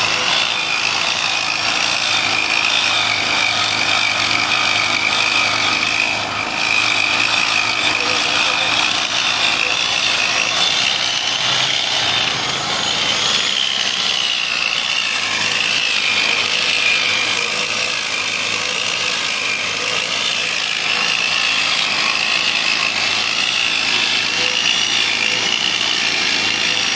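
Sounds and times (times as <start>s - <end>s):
cut-off disc grinding steel: 0.0s - 26.9s.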